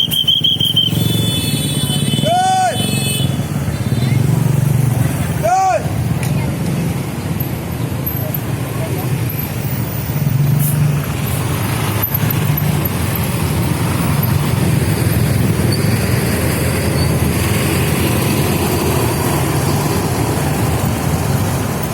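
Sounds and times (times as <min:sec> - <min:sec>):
bus diesel engine running: 0:00.0 - 0:21.9.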